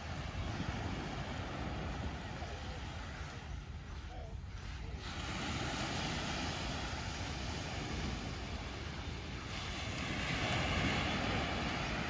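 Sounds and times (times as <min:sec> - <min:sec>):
small waves washing on sand: 0:00.0 - 0:12.0
wind buffeting microphone: 0:00.0 - 0:12.0.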